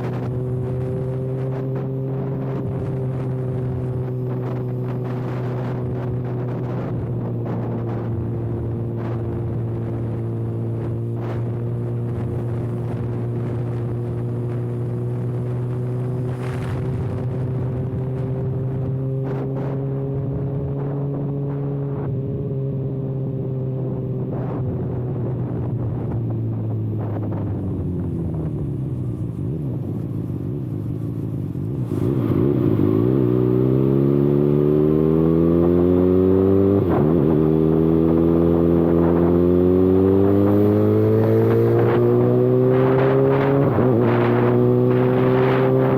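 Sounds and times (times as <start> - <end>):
motorcycle engine: 0.0 - 45.9.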